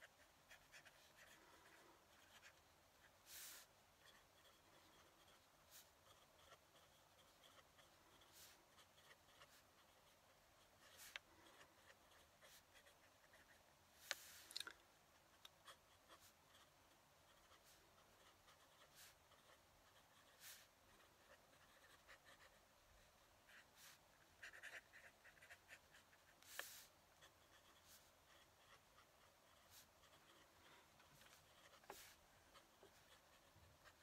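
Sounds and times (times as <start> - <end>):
fountain pen scratching on paper: 0.0 - 14.5, 15.6 - 34.0.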